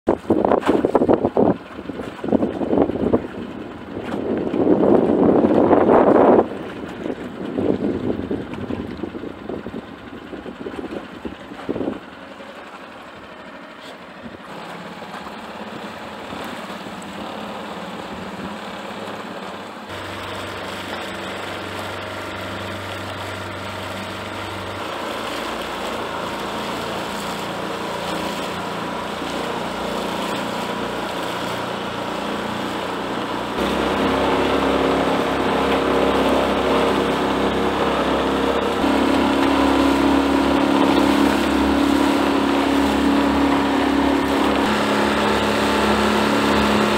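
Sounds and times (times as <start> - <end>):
outboard motor running: 0.1 - 46.9.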